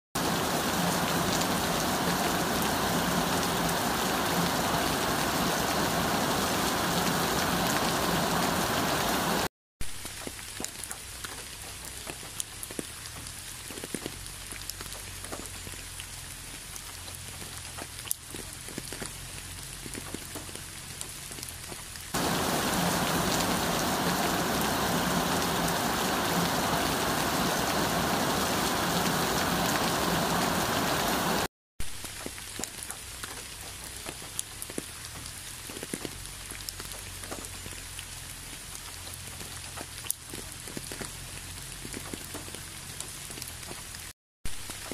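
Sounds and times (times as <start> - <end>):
rain pattering on an umbrella: 0.2 - 44.9.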